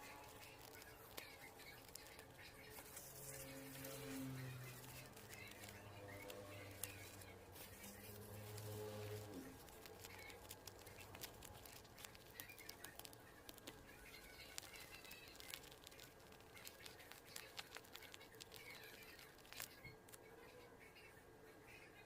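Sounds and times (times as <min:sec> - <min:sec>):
paper clicks and rustles: 0:00.1 - 0:20.2.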